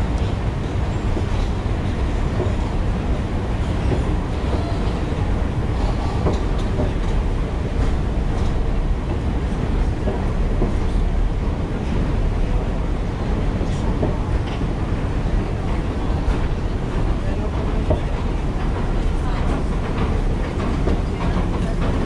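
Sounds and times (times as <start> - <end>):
metro station rumble: 0.0 - 22.0.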